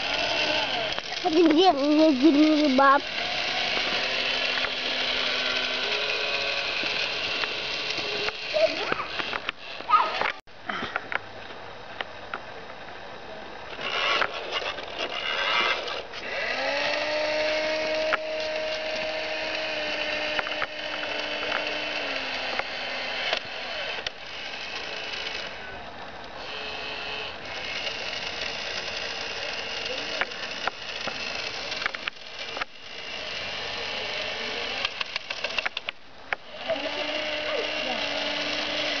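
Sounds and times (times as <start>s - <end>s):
toy motor and gears whirring: 0.0s - 10.4s, 13.7s - 25.8s, 26.4s - 39.0s.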